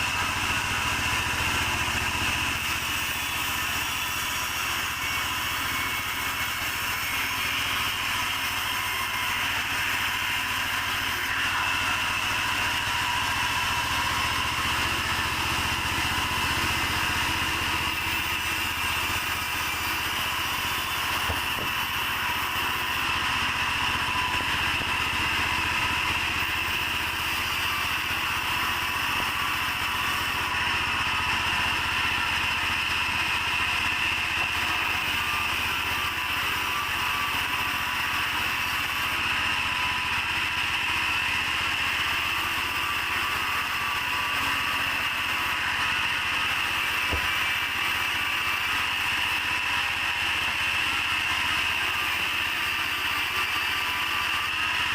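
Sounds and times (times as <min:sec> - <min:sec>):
sawmill saw whining: 0:00.0 - 0:54.9.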